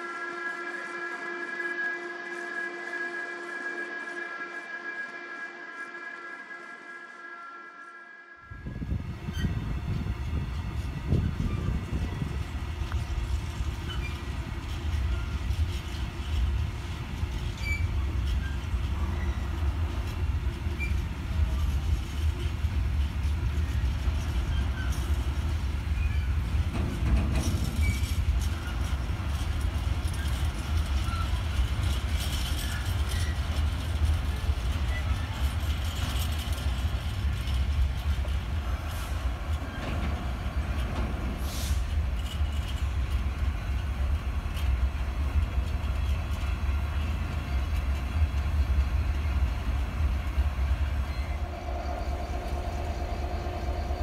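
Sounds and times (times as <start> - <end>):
diesel locomotive engine: 0.0 - 54.0
freight wagons rumbling: 8.8 - 54.0.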